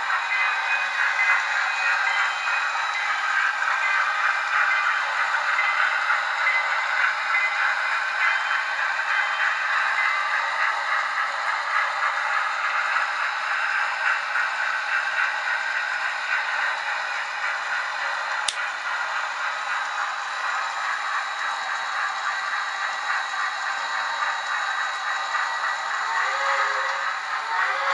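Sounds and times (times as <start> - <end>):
model train rolling and rattling: 0.0 - 27.9.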